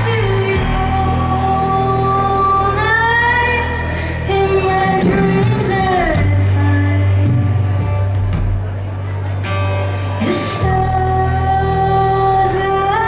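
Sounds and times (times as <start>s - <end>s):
woman singing: 0.0s - 8.1s, 10.2s - 13.0s
electric bass: 0.0s - 13.0s
strummed acoustic guitar: 0.0s - 13.0s.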